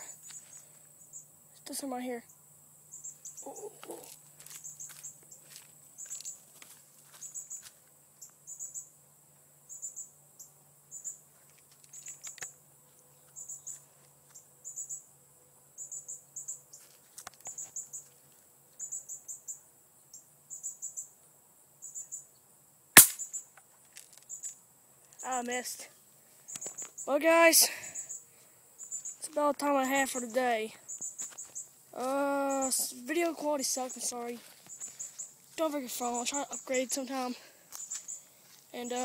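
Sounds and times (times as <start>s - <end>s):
faint high-pitched chirping: 0.0s - 6.4s, 7.1s - 9.0s, 9.6s - 15.1s, 15.8s - 21.2s, 21.8s - 22.5s, 24.2s - 39.0s.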